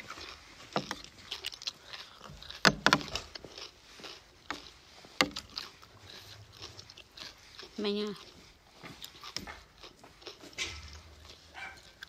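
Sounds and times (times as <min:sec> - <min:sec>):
person chewing crunchy salad: 0:00.0 - 0:12.0.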